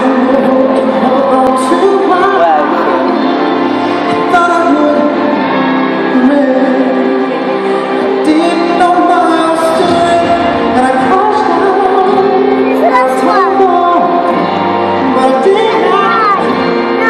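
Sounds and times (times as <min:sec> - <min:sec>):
live music accompaniment: 0:00.0 - 0:17.0.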